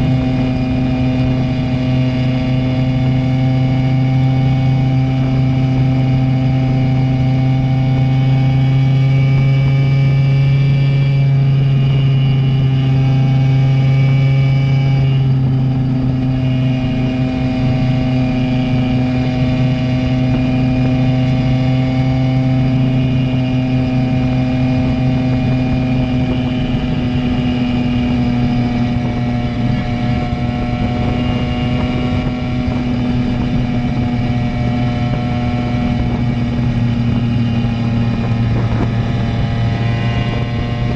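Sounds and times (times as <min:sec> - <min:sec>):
moped engine buzzing: 0:00.0 - 0:40.9.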